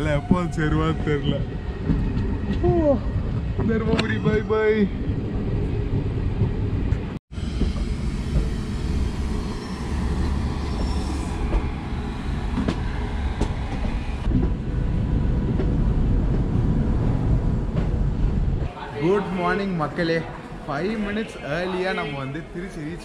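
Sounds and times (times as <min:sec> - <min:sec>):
train rumbling on rails: 0:00.0 - 0:21.4.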